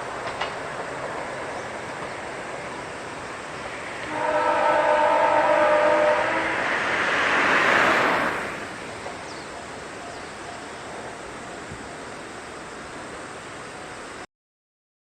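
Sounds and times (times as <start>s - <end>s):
electric train passing: 0.0s - 14.3s
steady background hiss: 0.0s - 14.3s.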